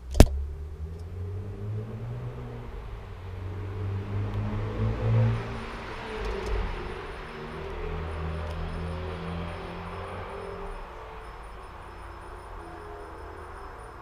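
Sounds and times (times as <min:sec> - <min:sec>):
passing road vehicle rumble: 0:00.0 - 0:14.0.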